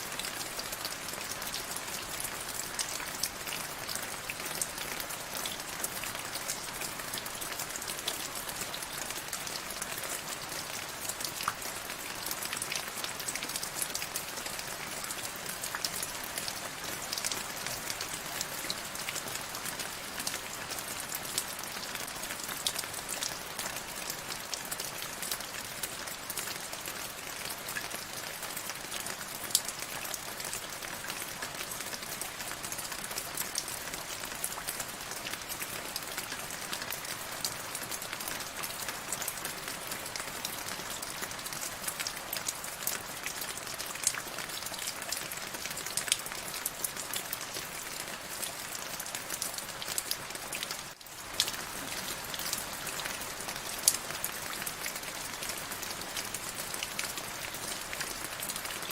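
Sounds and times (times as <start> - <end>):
rain pattering on a surface: 0.0 - 58.9.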